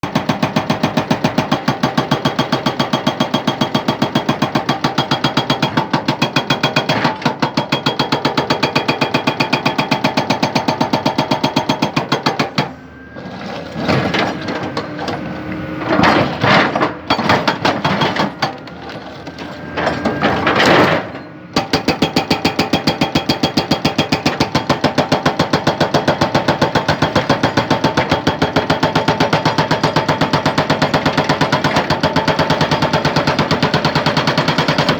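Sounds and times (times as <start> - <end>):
hydraulic breaker hammering rock: 0.0 - 34.9.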